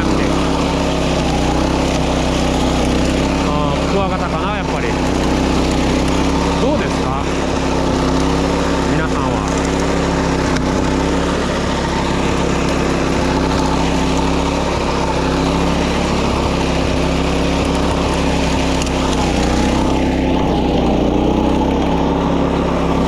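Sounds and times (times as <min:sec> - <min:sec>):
mower engine cutting grass: 0:00.0 - 0:23.0.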